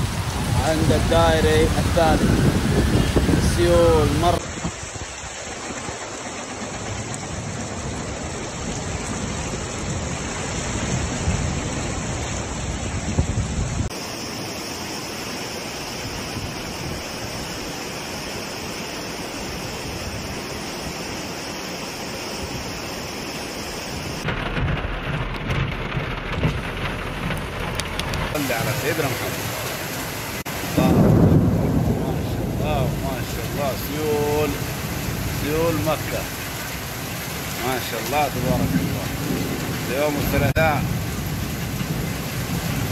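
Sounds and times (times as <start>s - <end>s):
floodwater rushing: 0.0s - 42.9s
heavy rain: 0.0s - 42.9s.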